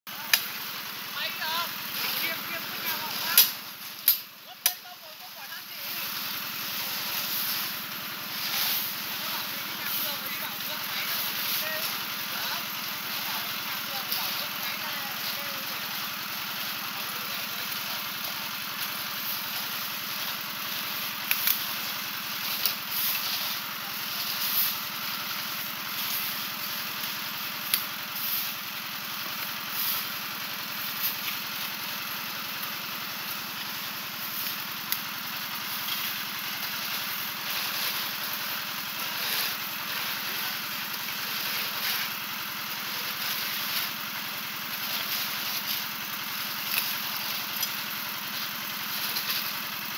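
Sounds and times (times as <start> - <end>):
concrete mixer running: 0.1 - 49.9.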